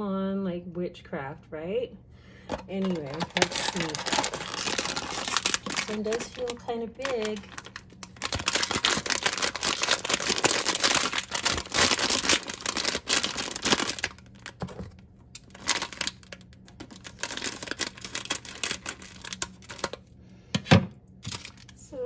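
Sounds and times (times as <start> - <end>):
foil bag crinkling and tearing: 2.7 - 20.1, 21.2 - 21.8.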